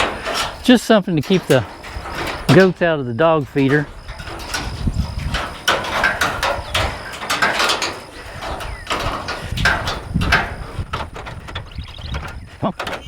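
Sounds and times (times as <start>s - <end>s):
sharp metallic clicks: 0.0s - 13.0s
wire fencing rattling and scraping: 0.0s - 13.0s.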